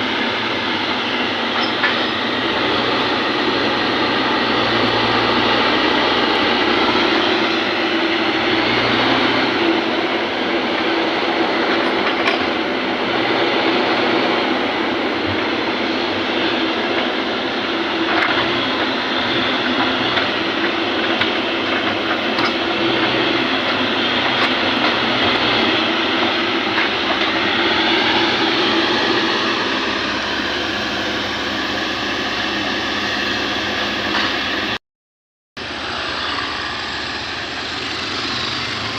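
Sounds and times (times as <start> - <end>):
excavator diesel engine drone: 0.0 - 34.8, 35.6 - 38.9.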